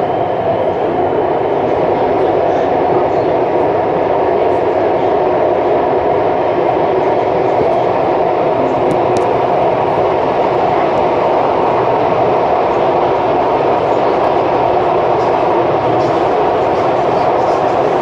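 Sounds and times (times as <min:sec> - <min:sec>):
subway train running at speed: 0:00.0 - 0:18.0.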